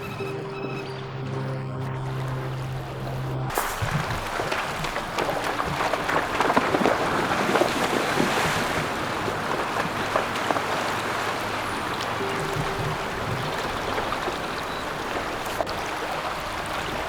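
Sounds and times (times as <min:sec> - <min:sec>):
river water running and splashing: 0:01.9 - 0:17.0.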